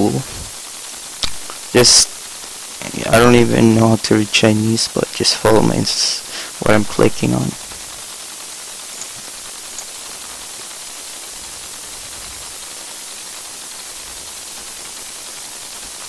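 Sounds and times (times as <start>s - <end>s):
microphone noise hiss: 0.0s - 16.0s.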